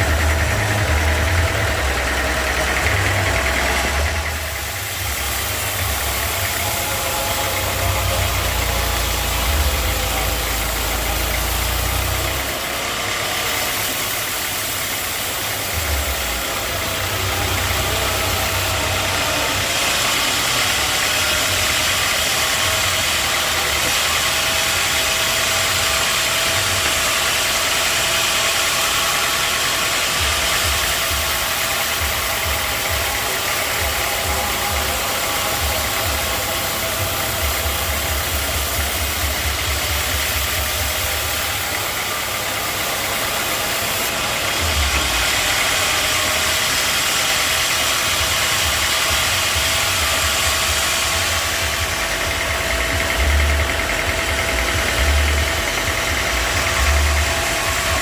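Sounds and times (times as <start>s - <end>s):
heavy machinery rumble: 0.0s - 58.0s
saw motor hissing and humming: 0.0s - 58.0s.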